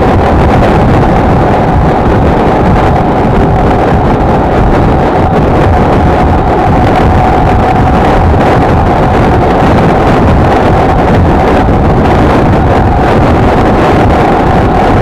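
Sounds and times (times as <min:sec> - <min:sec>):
motorcycle engine droning: 0:00.0 - 0:15.0
wind rushing over microphone: 0:00.0 - 0:15.0.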